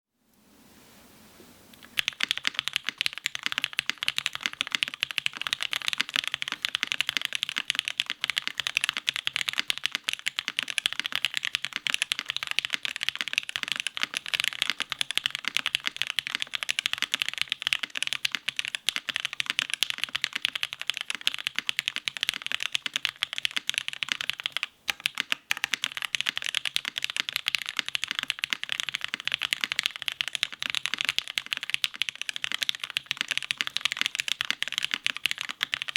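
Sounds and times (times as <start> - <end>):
fast mechanical keyboard typing: 1.8 - 35.9.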